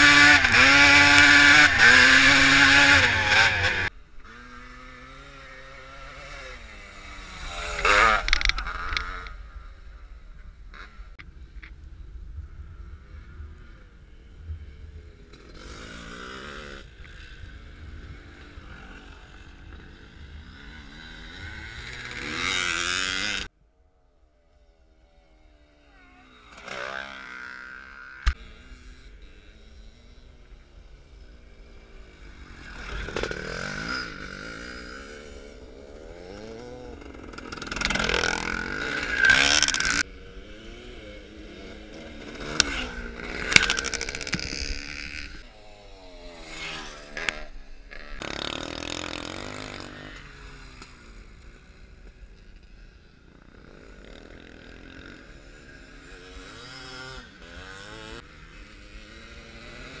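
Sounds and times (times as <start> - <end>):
motocross bikes revving past: 0.0 - 11.5, 12.7 - 23.5, 24.6 - 60.0.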